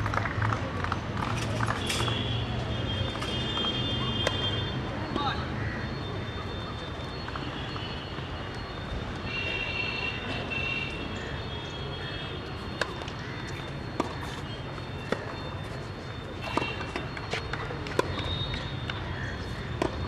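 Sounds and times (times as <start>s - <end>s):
outdoor murmur: 0.0s - 20.0s.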